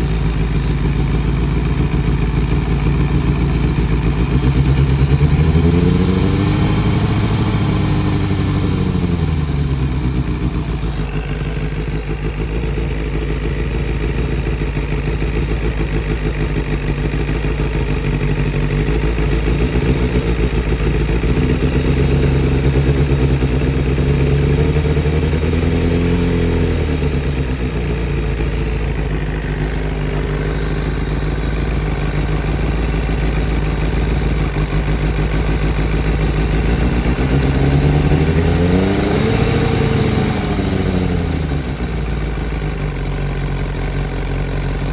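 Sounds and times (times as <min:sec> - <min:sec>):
engine idling and revving: 0:00.0 - 0:44.9.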